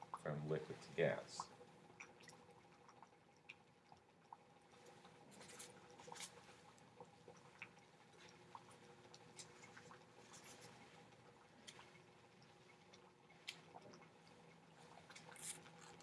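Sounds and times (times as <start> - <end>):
boiling water bubbling: 0.0 - 16.0.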